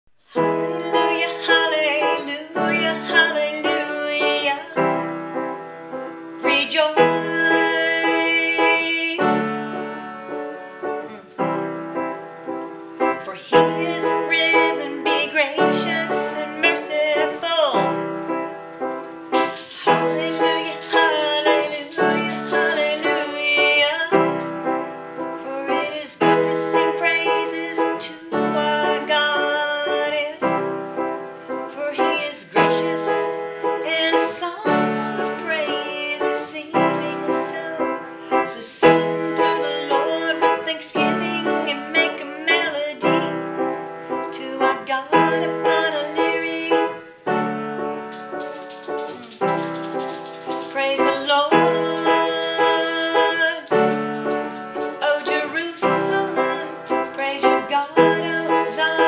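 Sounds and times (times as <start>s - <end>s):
woman singing: 0.3s - 5.6s, 6.4s - 9.8s, 13.1s - 18.4s, 19.4s - 31.0s, 31.7s - 47.9s, 50.6s - 59.0s
piano playing sustained chords: 0.4s - 59.0s.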